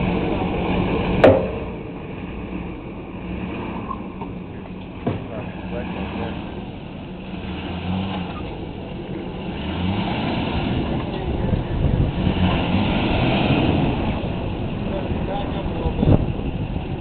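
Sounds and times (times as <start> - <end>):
diesel engine under heavy load: 0.0 - 17.0.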